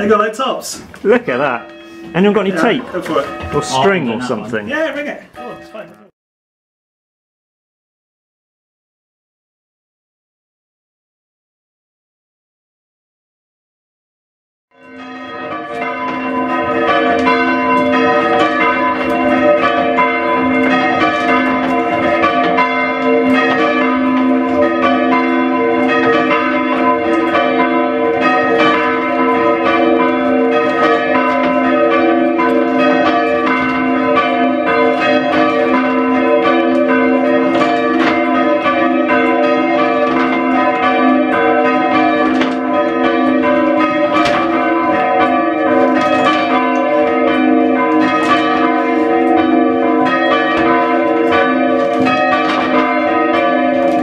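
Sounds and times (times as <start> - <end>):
church bells ringing: 0.0 - 6.1, 14.7 - 54.0.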